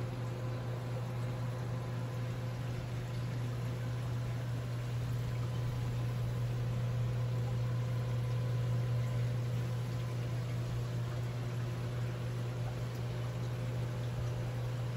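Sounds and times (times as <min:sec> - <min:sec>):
aquarium pumps humming: 0:00.0 - 0:14.9
circulating water hiss: 0:00.0 - 0:14.9.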